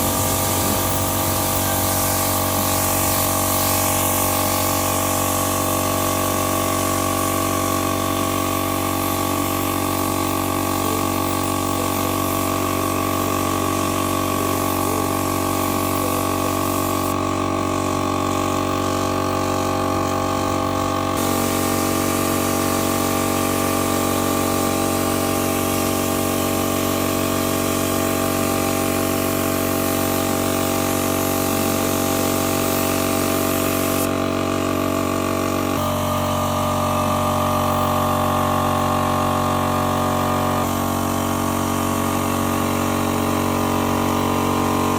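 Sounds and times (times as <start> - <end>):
machine motor humming: 0.0 - 44.9.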